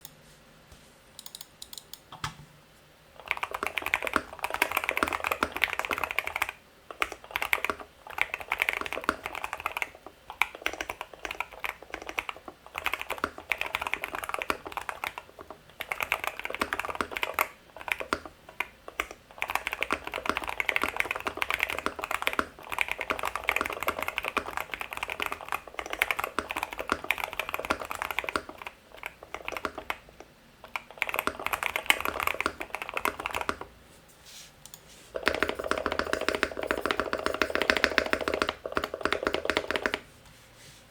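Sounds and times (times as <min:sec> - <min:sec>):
fast typing on a keyboard: 0:03.2 - 0:33.7, 0:35.2 - 0:40.0.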